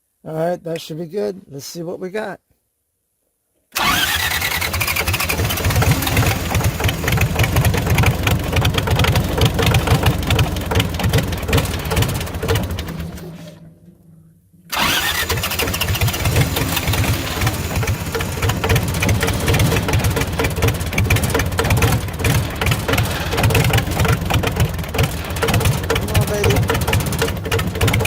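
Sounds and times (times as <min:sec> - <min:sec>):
diesel generator engine running: 0:03.8 - 0:13.7, 0:14.7 - 0:28.0.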